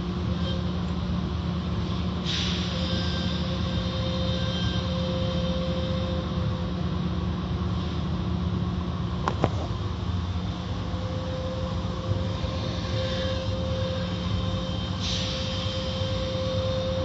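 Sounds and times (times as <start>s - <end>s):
thin steady whine: 0.0s - 17.0s.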